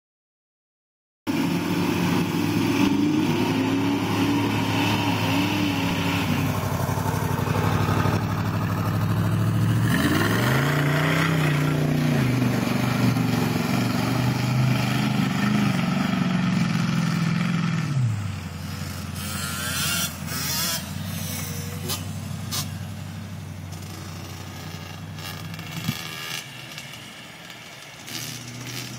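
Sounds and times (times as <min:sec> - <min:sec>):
truck engine revving hard: 0:01.3 - 0:23.1, 0:23.7 - 0:27.2, 0:28.0 - 0:28.9.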